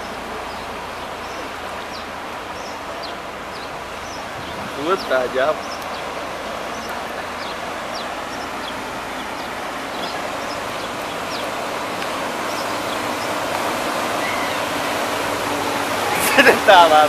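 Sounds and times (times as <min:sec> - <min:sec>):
bus engine: 0:00.0 - 0:17.0
churned water rushing: 0:00.0 - 0:17.0.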